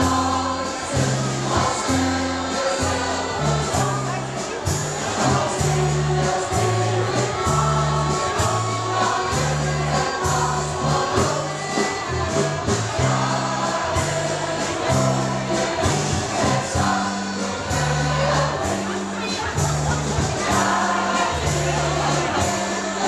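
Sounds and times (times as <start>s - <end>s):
bass line: 0.0s - 23.0s
drum kit with cymbal hits: 0.0s - 23.0s
mixed choir singing: 0.0s - 23.0s.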